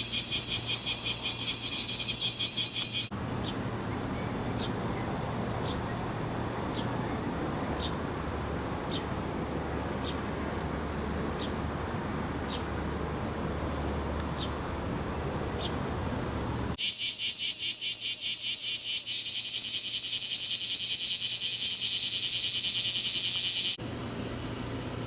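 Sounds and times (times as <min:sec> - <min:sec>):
cicadas buzzing: 0:00.0 - 0:24.9.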